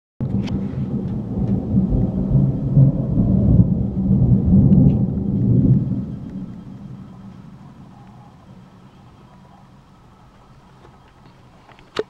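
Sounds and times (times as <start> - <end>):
heavy thunder rumbling: 0.2 - 10.2.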